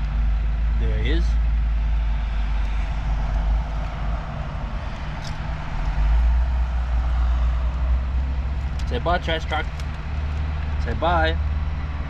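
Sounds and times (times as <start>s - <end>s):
heavy trucks passing: 0.0s - 12.0s.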